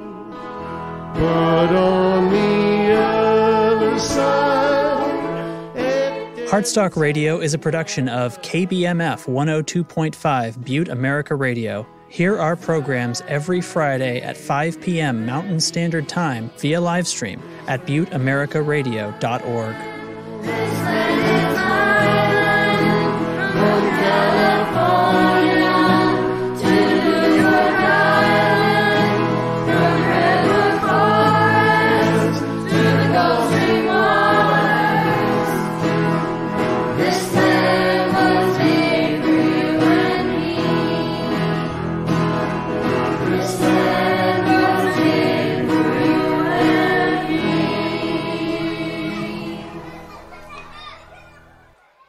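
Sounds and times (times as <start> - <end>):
low musical accompaniment: 0.0 - 50.0
choir singing: 1.1 - 9.5, 12.2 - 50.2.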